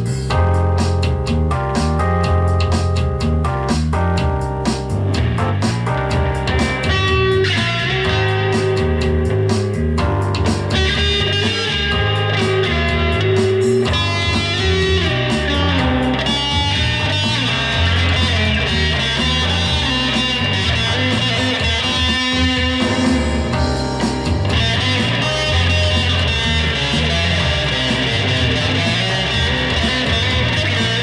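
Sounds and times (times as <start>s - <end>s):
backing track of bass and drums: 0.0s - 31.0s
electric guitar: 0.0s - 31.0s.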